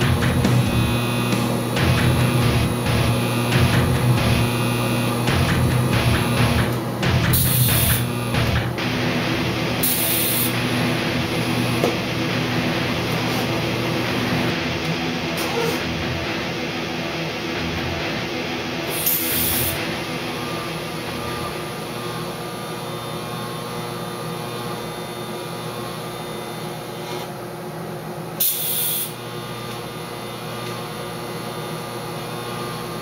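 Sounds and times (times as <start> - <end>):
welding arc buzzing: 0.0 - 33.0.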